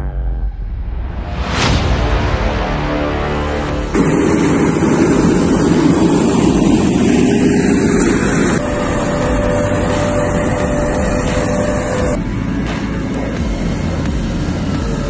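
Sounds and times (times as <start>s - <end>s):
harvester working: 2.1s - 15.0s.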